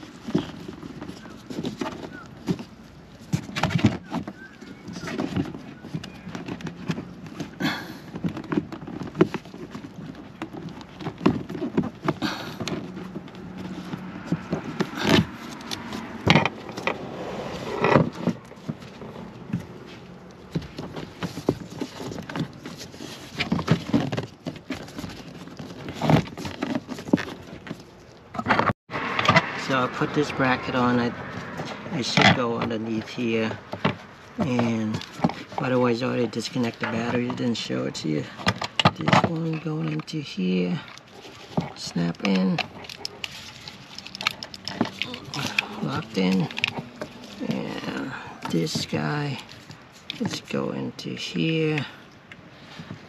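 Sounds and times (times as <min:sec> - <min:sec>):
plastic clicks knocks and scrapes: 0:00.0 - 0:29.6, 0:33.5 - 0:50.5
wiring rustling: 0:00.0 - 0:53.0.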